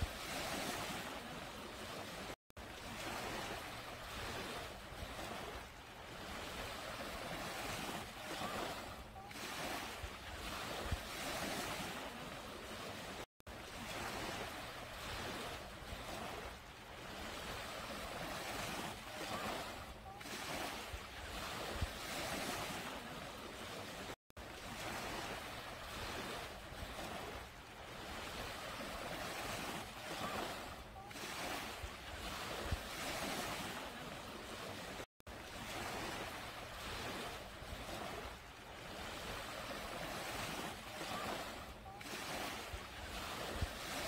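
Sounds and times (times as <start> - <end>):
waves washing up a beach: 0.0 - 44.0.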